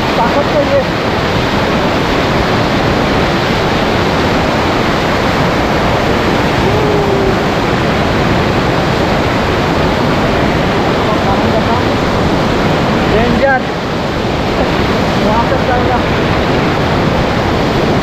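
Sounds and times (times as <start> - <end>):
water rushing in canal: 0.0 - 18.0.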